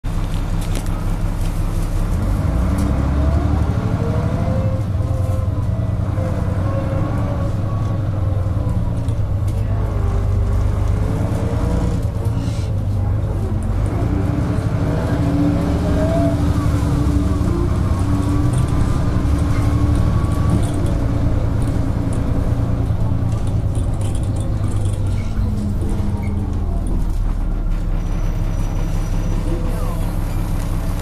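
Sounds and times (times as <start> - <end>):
bus diesel engine droning: 0.0 - 31.0.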